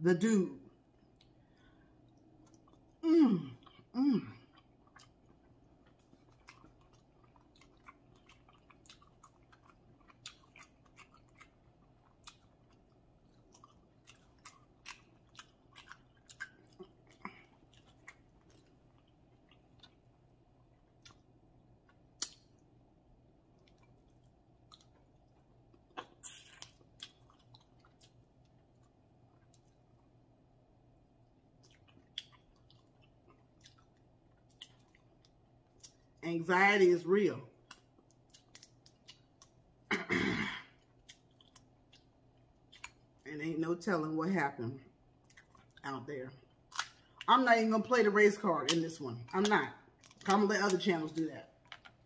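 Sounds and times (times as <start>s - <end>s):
person chewing: 0.7s - 22.8s, 23.4s - 30.3s, 31.5s - 36.2s, 37.5s - 39.9s, 40.6s - 43.2s, 45.0s - 45.8s, 46.4s - 47.3s, 49.4s - 50.3s, 51.5s - 52.0s.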